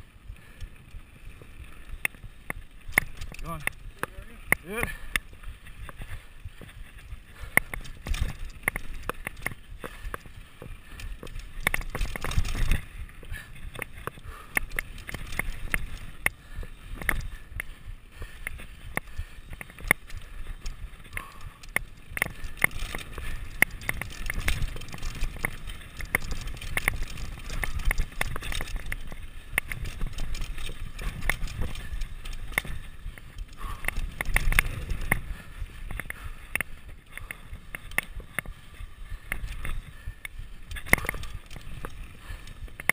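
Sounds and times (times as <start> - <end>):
bike clattering over rough trail: 0.0 - 42.9
tyre noise: 0.0 - 42.9.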